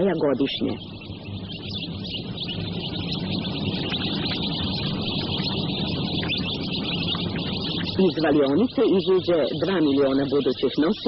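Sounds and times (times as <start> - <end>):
chicks peeping: 0.0 - 11.0
low machine hum: 0.0 - 11.0.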